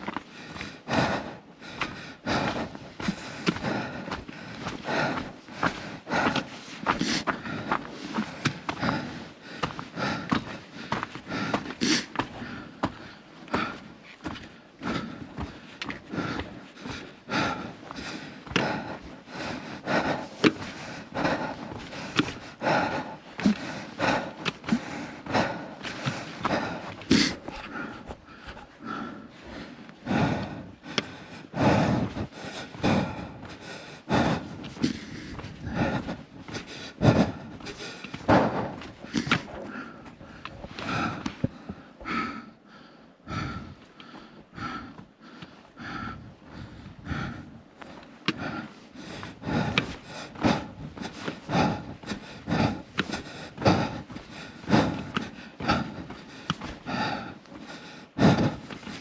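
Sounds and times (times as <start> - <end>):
sharp clicks on steps: 0.0 - 28.7, 29.5 - 42.2, 47.8 - 59.0
footsteps on trail: 0.0 - 59.0
person breathing hard: 0.0 - 59.0.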